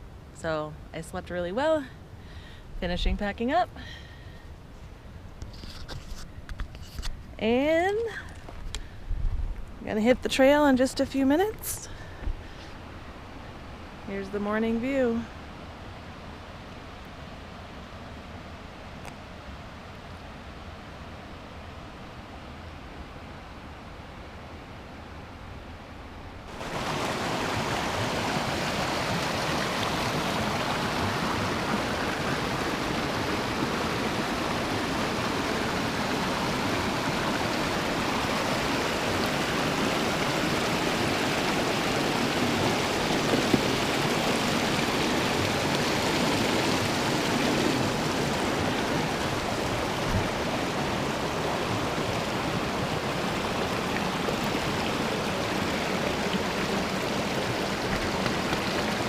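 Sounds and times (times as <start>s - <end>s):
stream flowing: 10.0s - 25.7s, 26.4s - 59.0s.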